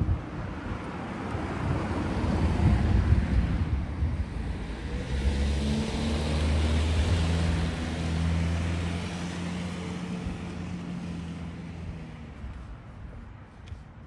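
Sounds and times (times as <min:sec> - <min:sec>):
car passing by: 0:00.6 - 0:12.8.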